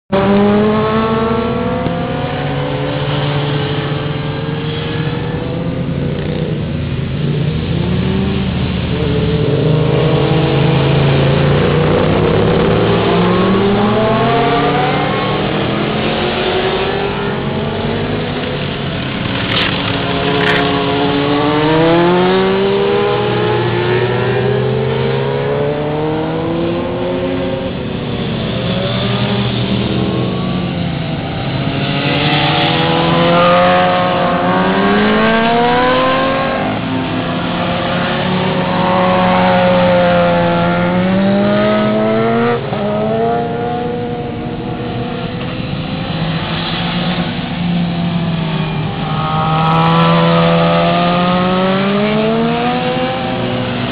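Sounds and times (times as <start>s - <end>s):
motorcycle engines passing by: 0.2s - 53.9s.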